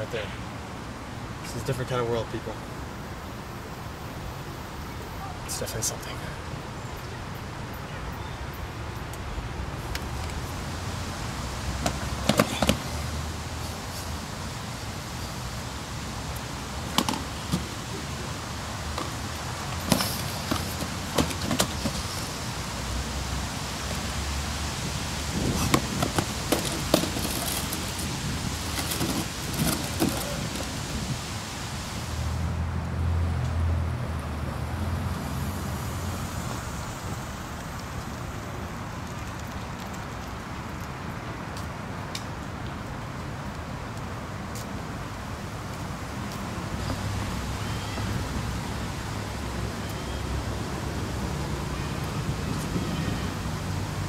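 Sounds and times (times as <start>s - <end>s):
steady hiss: 0.0s - 32.5s, 34.4s - 54.0s
passing traffic rumble: 0.0s - 54.0s.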